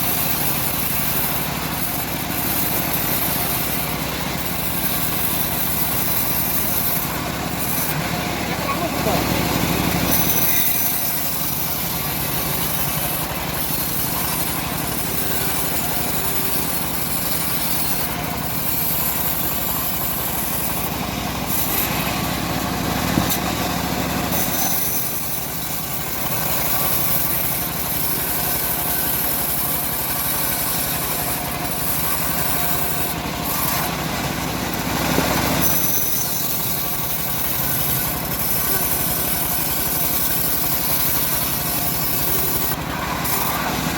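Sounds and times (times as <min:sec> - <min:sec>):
bandsaw cutting log: 0:00.0 - 0:43.9
engine drone: 0:00.0 - 0:43.9.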